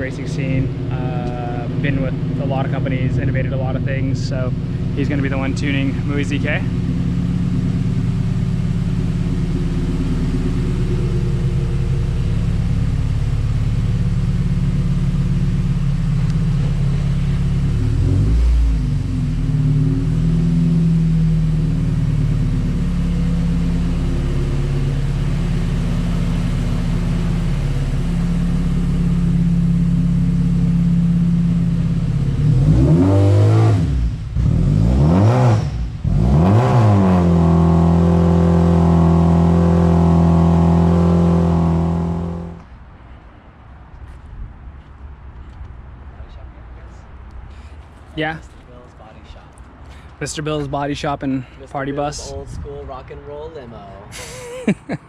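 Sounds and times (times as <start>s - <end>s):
car engine idling and revving: 0.0s - 46.3s.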